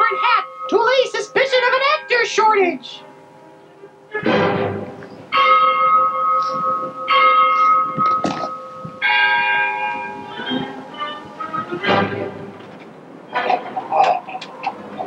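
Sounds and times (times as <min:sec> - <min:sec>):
church bell tolling: 0:00.0 - 0:12.4.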